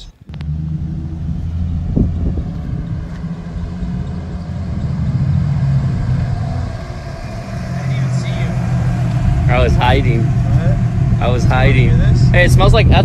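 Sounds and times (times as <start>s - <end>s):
car engine driving slowly: 0.0s - 13.0s.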